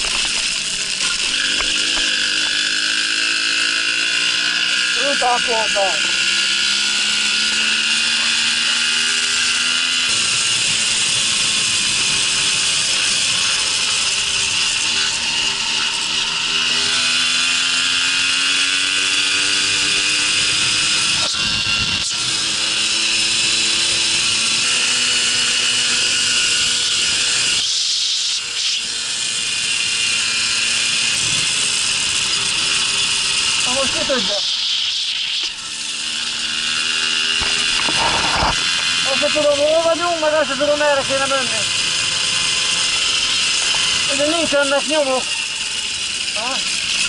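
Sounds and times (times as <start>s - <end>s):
moped engine buzzing: 0.0s - 47.0s.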